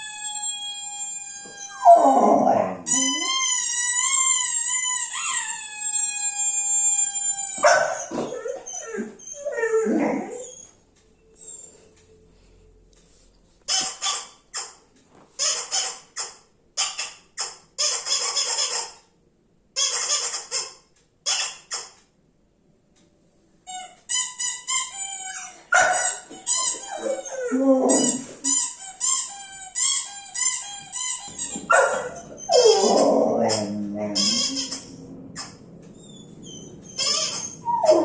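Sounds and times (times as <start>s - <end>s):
dog toy squeaks: 0.0s - 10.7s, 13.7s - 14.8s, 15.4s - 19.0s, 19.8s - 22.0s, 23.7s - 38.0s.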